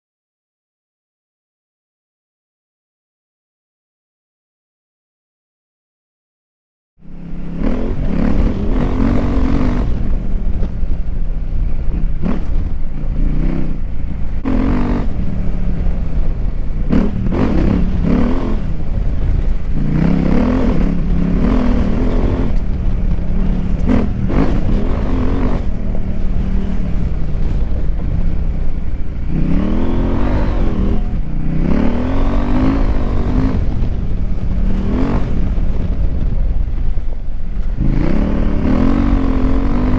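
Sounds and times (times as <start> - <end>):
motorcycle engine revving: 7.0 - 39.9.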